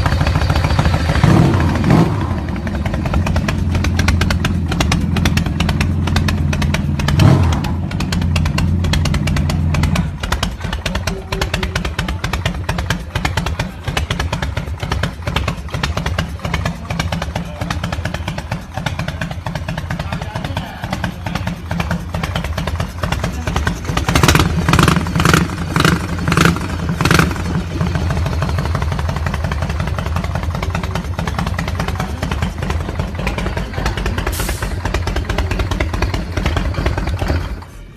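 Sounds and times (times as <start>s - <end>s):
motorcycle engine idling: 0.0s - 37.9s.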